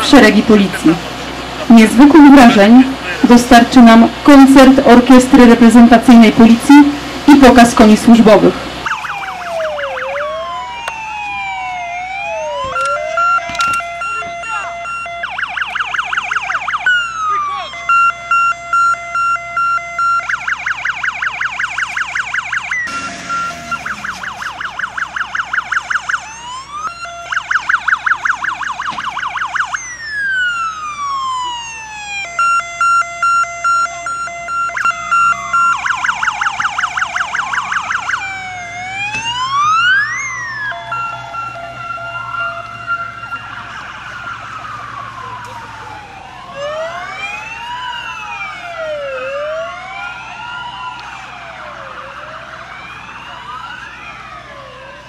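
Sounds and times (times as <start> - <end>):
police sirens wailing and yelping: 0.0 - 55.0.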